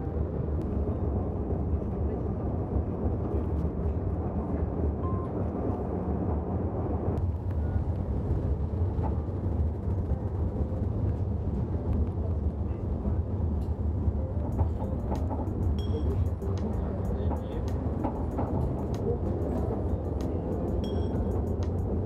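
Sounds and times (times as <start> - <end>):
vehicle cabin rumble: 0.0 - 22.0.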